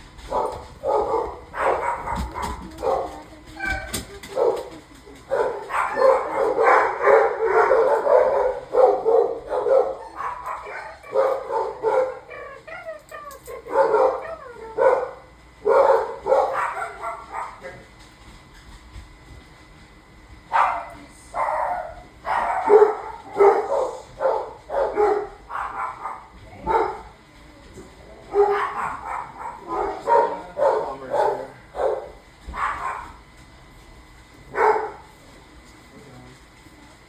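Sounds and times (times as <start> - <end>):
dogs barking: 0.0 - 17.8, 20.4 - 27.2, 28.0 - 33.3, 34.4 - 35.2.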